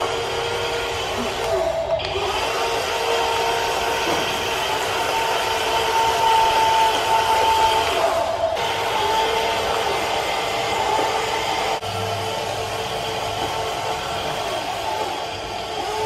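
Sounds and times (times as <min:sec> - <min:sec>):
mechanical whirring with whine: 0:00.0 - 0:16.0.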